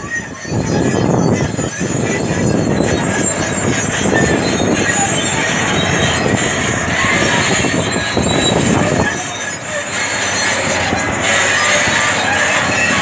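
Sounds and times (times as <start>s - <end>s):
bulldozer diesel engine under load: 0.0s - 13.0s
steel tracks squealing and clattering: 0.0s - 13.0s.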